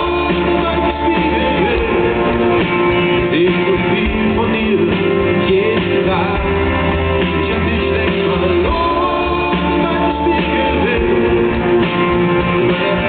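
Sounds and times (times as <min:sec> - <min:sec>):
drum kit: 0:00.0 - 0:13.0
person singing: 0:00.0 - 0:13.0.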